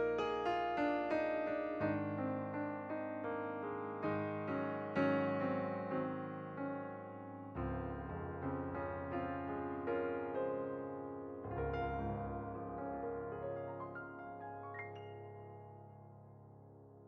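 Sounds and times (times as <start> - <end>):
gentle slow piano music: 0.0 - 17.0.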